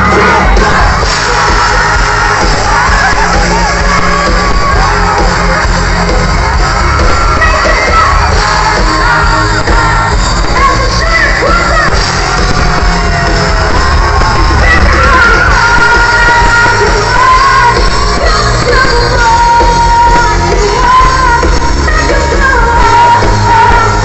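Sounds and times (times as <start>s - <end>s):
crowd voices: 0.0s - 24.0s
live band with lead singer: 0.0s - 24.0s.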